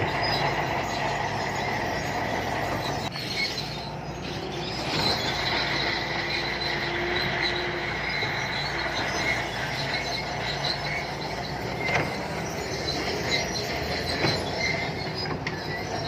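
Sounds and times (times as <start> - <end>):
bulldozer diesel engine rumble: 0.0 - 16.0
steel tracks squealing: 0.0 - 16.0.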